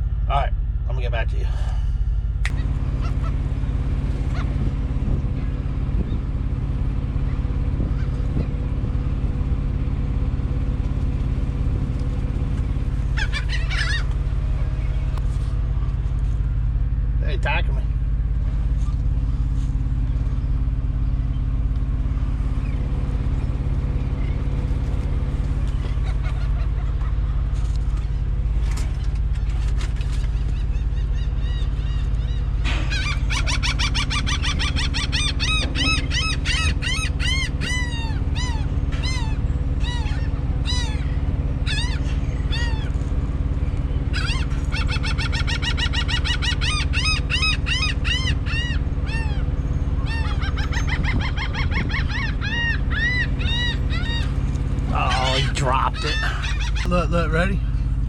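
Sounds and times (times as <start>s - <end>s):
truck engine idling: 0.0s - 58.0s
birds squawking: 2.5s - 16.8s, 17.8s - 58.0s.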